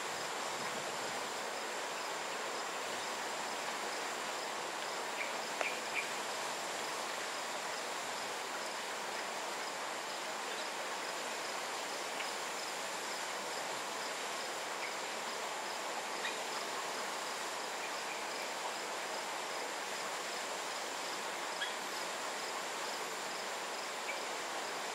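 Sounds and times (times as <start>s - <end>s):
background hiss: 0.0s - 24.9s
insects droning: 0.0s - 24.9s.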